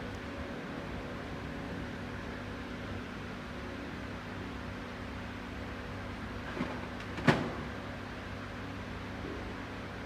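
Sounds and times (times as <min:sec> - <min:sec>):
mechanical hum with hiss: 0:00.0 - 0:10.0.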